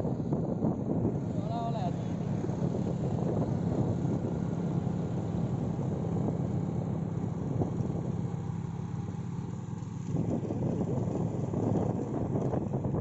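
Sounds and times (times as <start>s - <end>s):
wind on microphone: 0.0s - 8.5s, 10.0s - 13.0s
small engine running: 0.9s - 13.0s.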